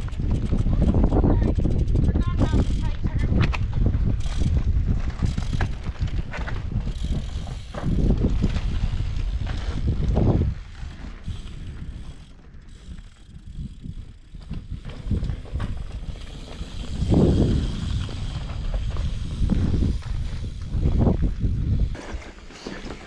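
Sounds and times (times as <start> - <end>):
bicycle hub ticking: 0.0 - 22.0
bike tyres rumbling on rock: 0.0 - 23.0.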